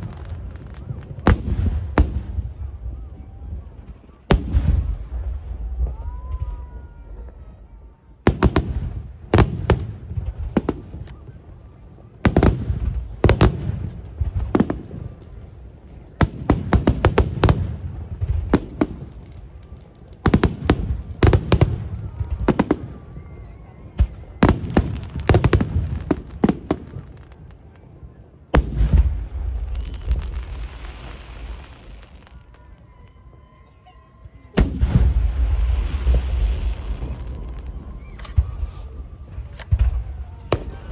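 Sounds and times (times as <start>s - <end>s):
fireworks bursting: 0.0s - 40.9s
fireworks crackling: 0.0s - 40.9s.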